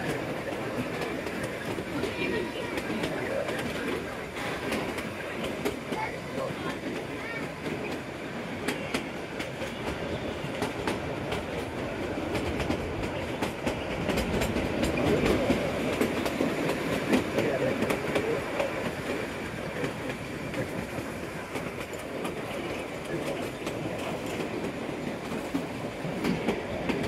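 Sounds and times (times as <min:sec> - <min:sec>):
train coaches rumbling: 0:00.0 - 0:27.0
wheels clicking over rail joints: 0:00.0 - 0:27.0.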